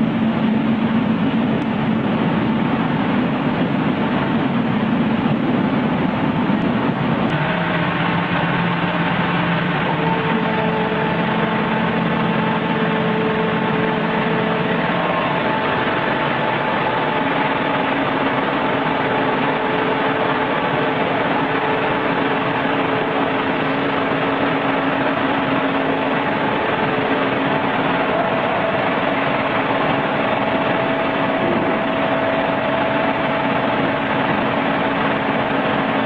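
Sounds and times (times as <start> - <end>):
machinery hum and hiss: 0.0 - 36.0.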